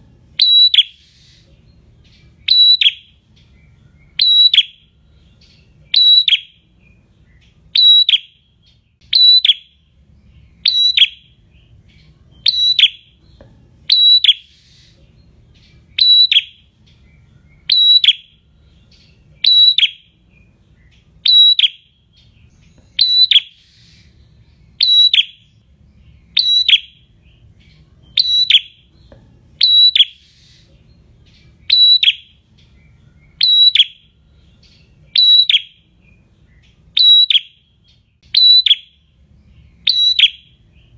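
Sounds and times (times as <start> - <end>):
bird singing shrill high call: 0.4 - 3.2, 3.9 - 7.0, 7.7 - 9.8, 10.4 - 11.4, 12.0 - 13.2, 13.8 - 15.0, 15.6 - 20.1, 21.2 - 27.1, 27.7 - 29.0, 29.6 - 40.6.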